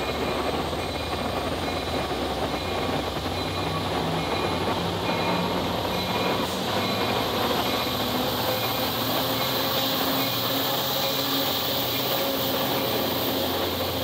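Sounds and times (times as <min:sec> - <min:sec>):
diesel locomotive engine under load: 0:00.0 - 0:14.0
train wheel and rail noise: 0:00.0 - 0:14.0.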